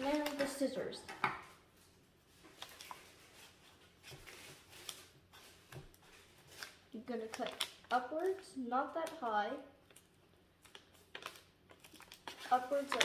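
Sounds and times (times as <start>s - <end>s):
paper rustles: 0.0s - 0.8s, 1.5s - 8.3s, 9.9s - 13.0s.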